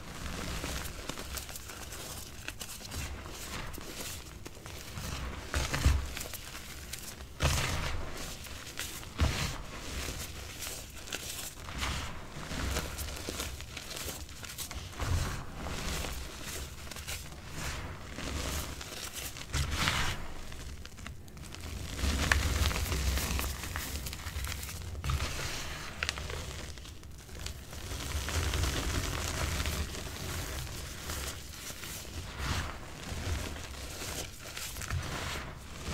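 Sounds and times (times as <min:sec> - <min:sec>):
hands crumbling chalk: 0:00.3 - 0:35.9.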